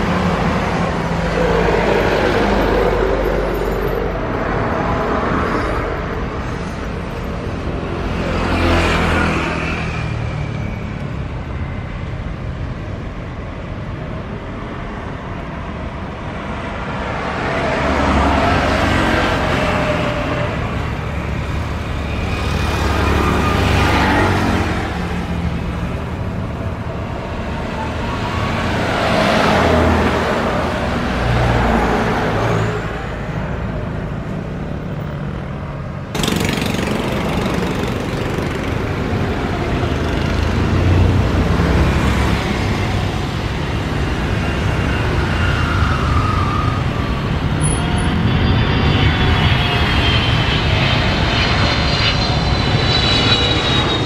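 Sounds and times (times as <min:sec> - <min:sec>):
jet airliner rolling on runway: 0:00.0 - 0:54.0
jet engines whining on approach: 0:00.0 - 0:54.0.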